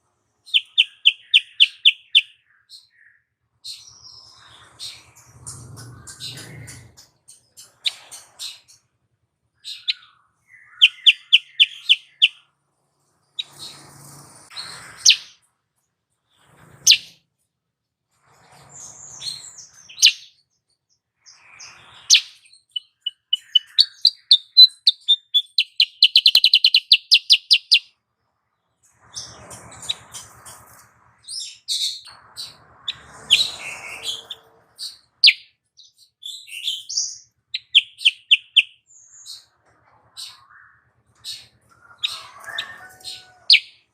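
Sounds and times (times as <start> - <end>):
songbird chirping and trilling: 0.3 - 15.5, 16.2 - 17.2, 18.2 - 43.9.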